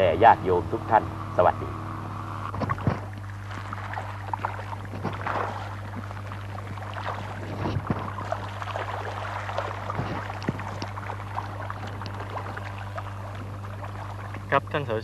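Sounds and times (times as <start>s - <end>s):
low electrical hum: 0.0s - 15.0s
fish splashing at water surface: 2.4s - 14.6s.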